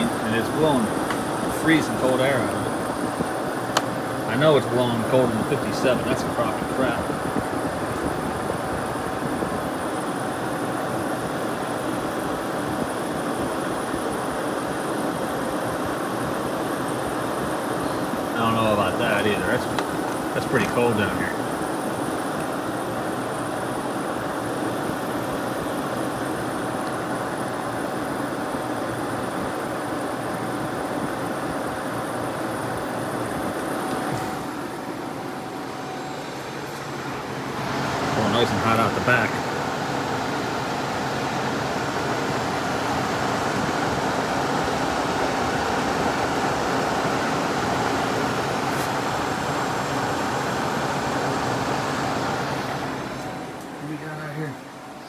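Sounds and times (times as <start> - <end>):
window air conditioner running: 0.0 - 55.0.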